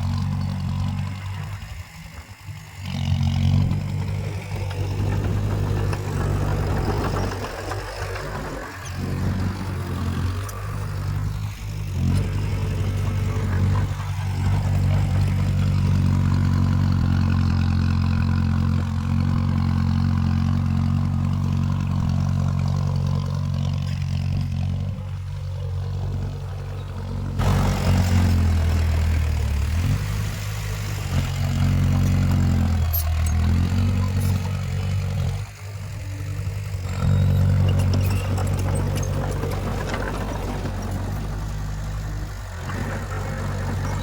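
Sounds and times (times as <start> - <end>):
heavy diesel engine under load: 0.0 - 44.0.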